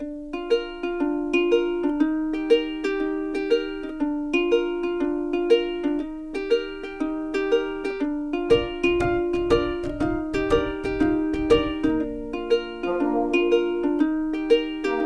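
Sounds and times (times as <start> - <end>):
plucked-string tune with light beat: 0.0 - 15.0.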